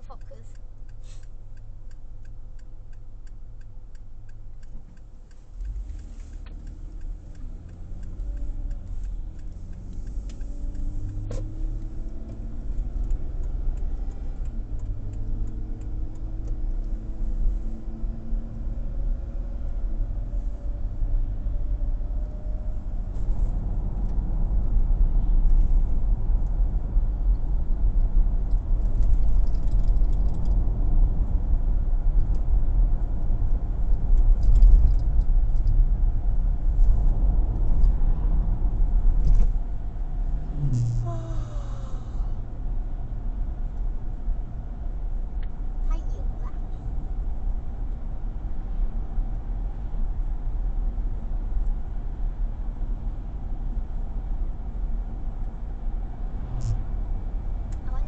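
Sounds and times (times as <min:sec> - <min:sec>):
turn signal ticking: 0:00.0 - 0:49.6, 0:54.0 - 0:58.0
car engine accelerating: 0:02.2 - 0:58.0.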